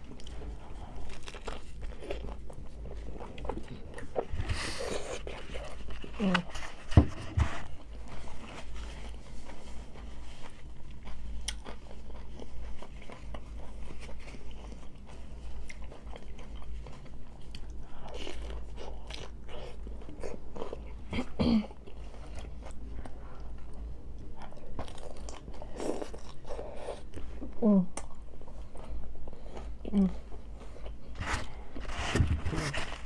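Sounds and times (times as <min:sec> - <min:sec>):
crunchy tacos being chewed: 0:00.0 - 0:33.0.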